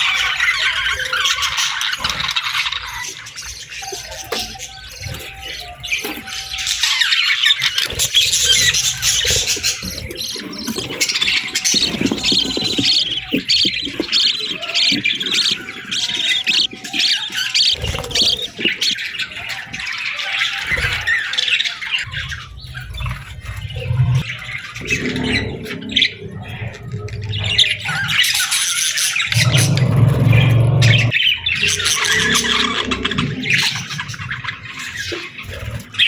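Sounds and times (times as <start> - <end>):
budgerigars chirping and chattering: 0.0 - 36.0.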